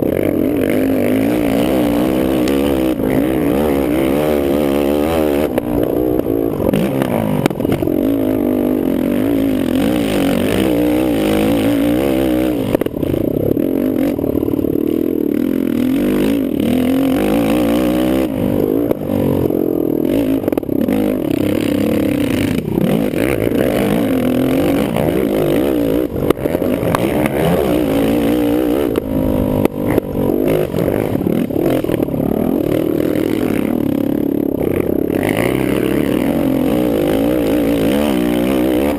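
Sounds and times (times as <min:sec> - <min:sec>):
engine clatter: 0:00.0 - 0:38.9
quad engine racing: 0:00.0 - 0:38.9.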